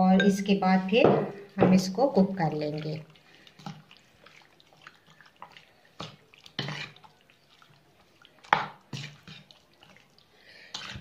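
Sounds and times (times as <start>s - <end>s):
spoon stirring wet marinade: 0.9s - 11.0s.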